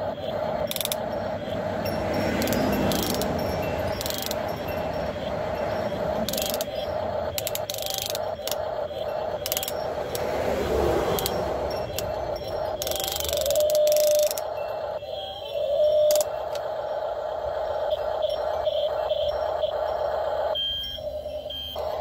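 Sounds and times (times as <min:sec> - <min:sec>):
electric gear motors whining: 0:00.0 - 0:22.0
gear clicking: 0:00.0 - 0:22.0
vehicles passing on road: 0:00.0 - 0:22.0.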